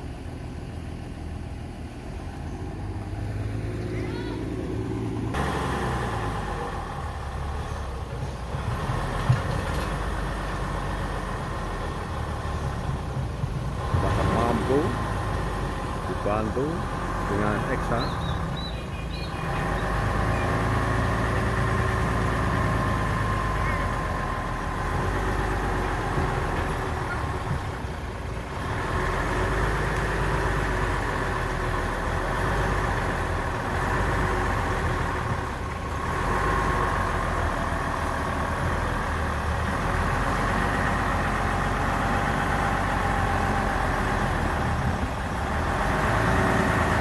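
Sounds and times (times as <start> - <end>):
diesel truck engine running: 0.0 - 47.0.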